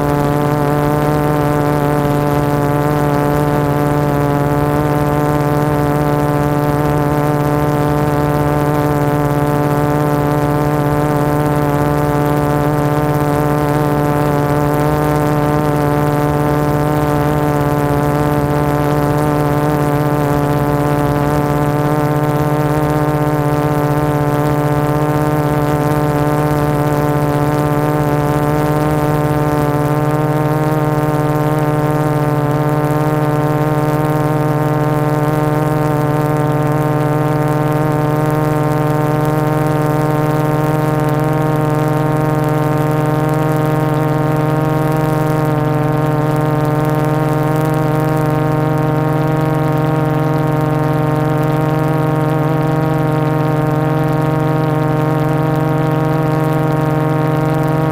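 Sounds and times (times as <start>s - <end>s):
drone motors buzzing hum: 0.0s - 57.9s
propeller wash: 0.0s - 57.9s.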